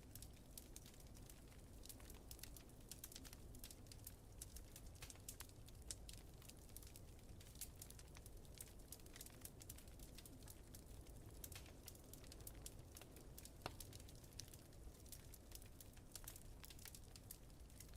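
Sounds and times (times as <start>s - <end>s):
fire low rumble: 0.0s - 17.9s
wood fire crackling faintly: 0.0s - 17.9s.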